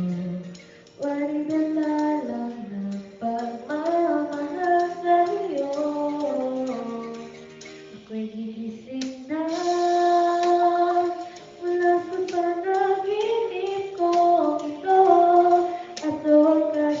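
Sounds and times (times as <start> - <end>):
woman singing a slow ballad: 0.0 - 17.0.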